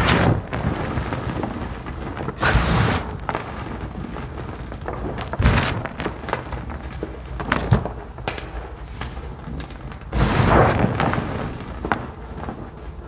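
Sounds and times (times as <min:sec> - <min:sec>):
hands crunching dry powder blocks: 0:00.0 - 0:13.0.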